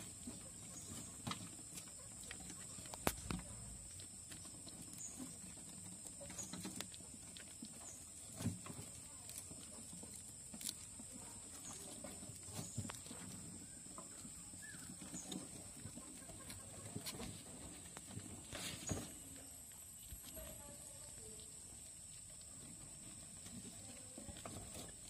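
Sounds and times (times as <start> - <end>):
rats scrabbling in wooden box: 0.0 - 25.0.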